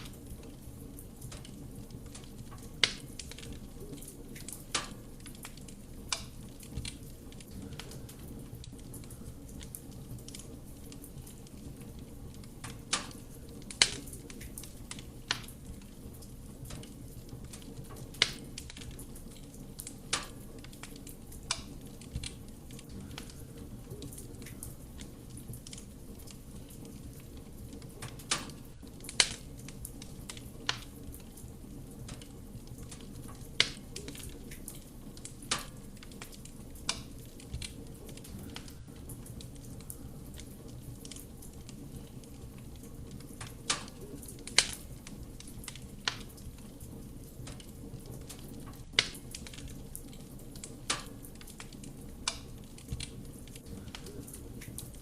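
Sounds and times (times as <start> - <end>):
fire roaring softly: 0.0 - 55.0
wood crackling and popping: 0.0 - 55.0.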